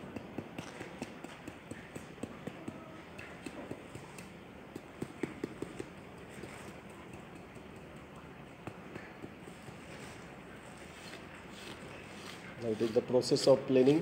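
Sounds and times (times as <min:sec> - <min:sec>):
trowel tapping sand: 0:00.0 - 0:14.0.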